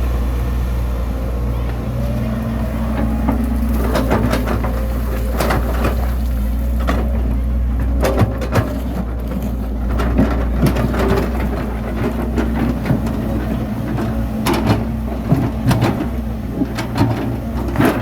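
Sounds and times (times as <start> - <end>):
clanks and knocks of tracks: 0.0 - 18.0
diesel engine running: 0.0 - 18.0.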